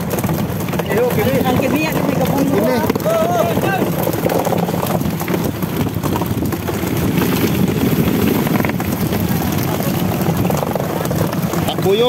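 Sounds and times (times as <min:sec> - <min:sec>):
boat engine rumbling: 0:00.0 - 0:12.0
wind on microphone: 0:00.0 - 0:12.0.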